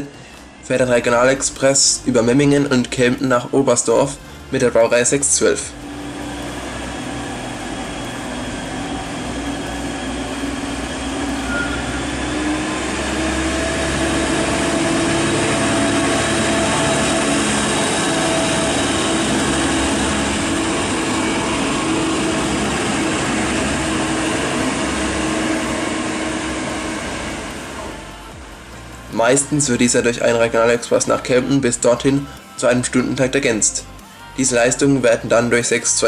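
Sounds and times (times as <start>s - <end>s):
diesel train engine drone: 0.0s - 36.0s.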